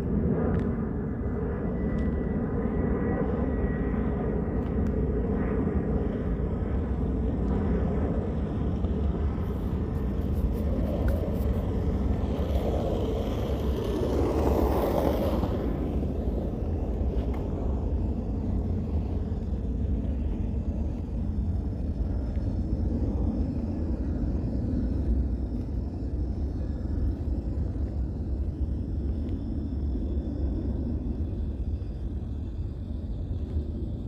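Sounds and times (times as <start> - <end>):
jet rumble climbing: 0.0 - 34.0.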